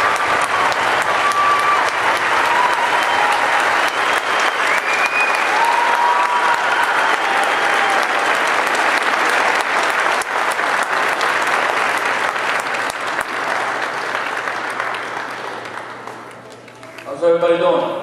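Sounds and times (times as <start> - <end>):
crowd applauding: 0.0 - 17.5.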